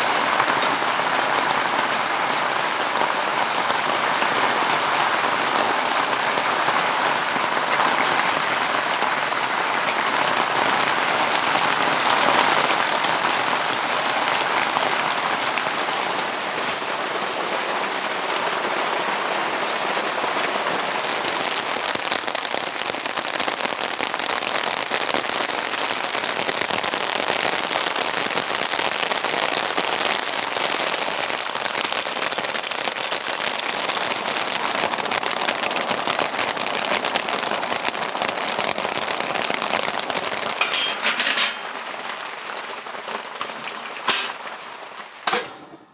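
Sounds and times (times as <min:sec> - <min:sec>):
rain pattering: 0:00.0 - 0:45.9.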